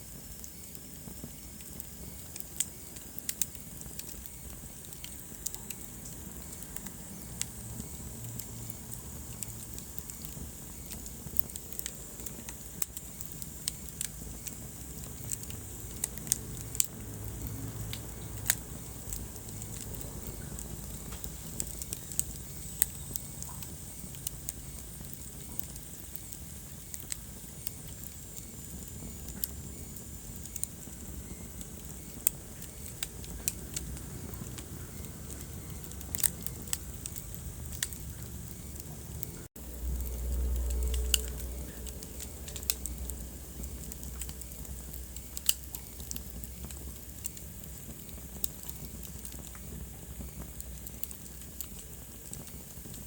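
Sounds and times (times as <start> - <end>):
hiss and rumble of burning logs: 0.0 - 53.0
wood fire crackling: 0.0 - 53.0.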